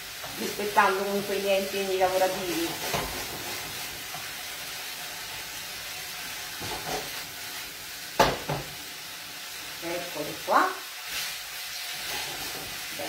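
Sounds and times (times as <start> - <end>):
pasta sizzling in frying pan: 0.0 - 13.0.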